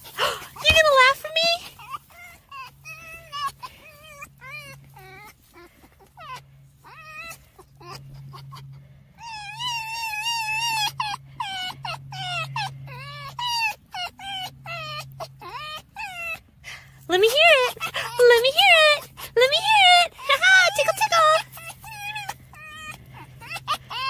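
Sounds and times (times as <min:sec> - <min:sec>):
fox whining squeals: 0:00.0 - 0:16.6, 0:17.3 - 0:24.0.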